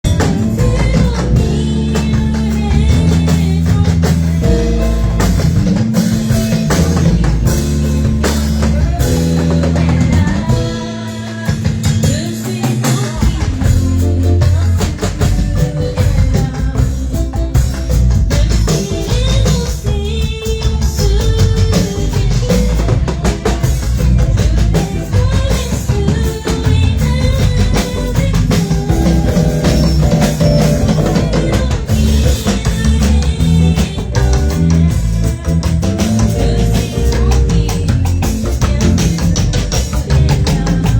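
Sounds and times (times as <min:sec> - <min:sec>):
sustained bass notes: 0:00.0 - 0:12.3, 0:13.2 - 0:40.9
drum kit beat: 0:00.0 - 0:40.9
person singing: 0:00.0 - 0:40.9.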